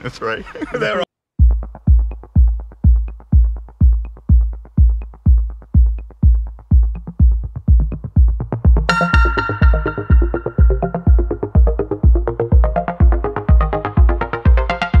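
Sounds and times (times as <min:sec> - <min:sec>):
electronic dance music: 0:01.4 - 0:15.0
heavy kick drum: 0:01.4 - 0:15.0.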